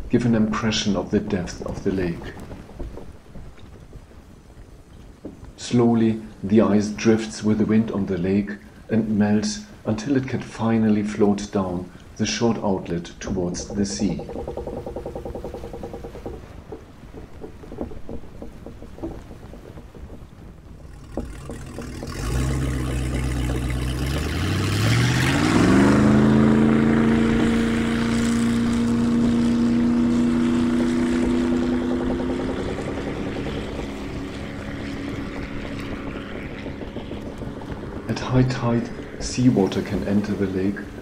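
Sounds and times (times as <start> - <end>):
boat engine running: 0.0 - 41.0
wind buffeting microphone: 0.0 - 41.0.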